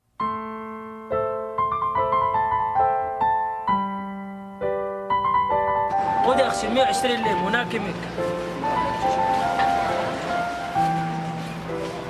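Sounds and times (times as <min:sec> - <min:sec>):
gentle piano melody: 0:00.1 - 0:12.0.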